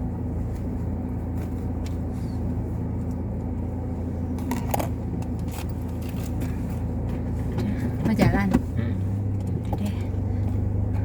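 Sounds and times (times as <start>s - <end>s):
car engine hum from cabin: 0.0s - 11.0s.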